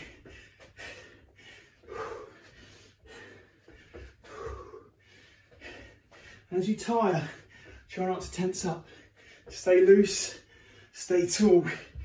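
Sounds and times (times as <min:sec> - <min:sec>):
man breathing hard: 0:00.0 - 0:11.0.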